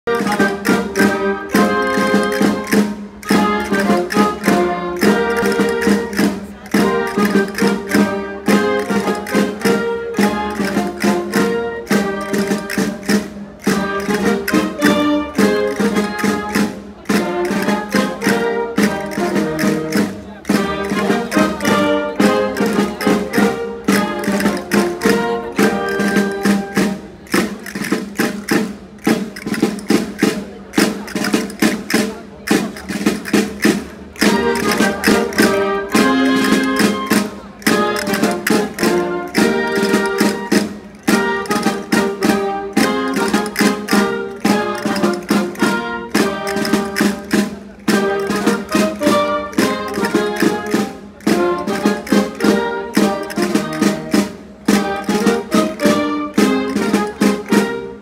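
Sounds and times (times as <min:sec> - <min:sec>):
folk dance music: 0:00.0 - 0:58.0.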